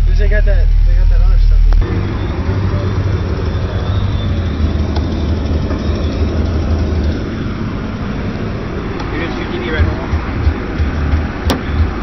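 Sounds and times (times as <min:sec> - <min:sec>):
car subwoofer bass: 0:00.0 - 0:12.0.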